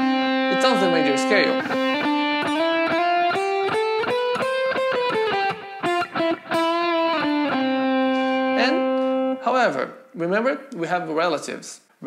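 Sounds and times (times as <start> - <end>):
electric guitar playing a scale: 0.0 - 10.1.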